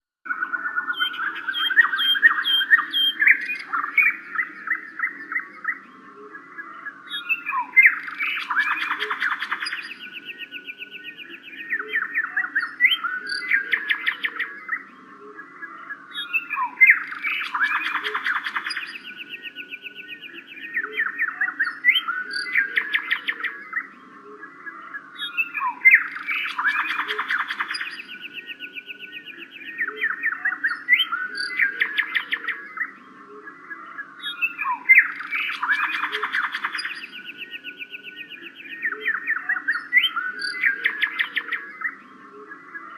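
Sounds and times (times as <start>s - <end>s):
small birds chirping: 0.2s - 42.9s.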